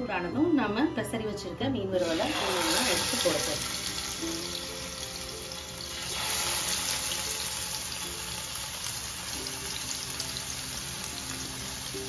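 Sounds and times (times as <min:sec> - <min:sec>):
fish sizzling in hot oil: 0:02.0 - 0:12.0.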